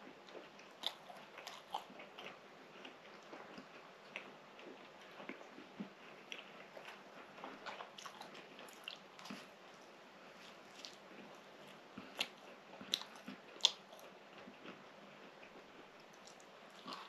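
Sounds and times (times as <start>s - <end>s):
chewing bread: 0.0s - 17.0s.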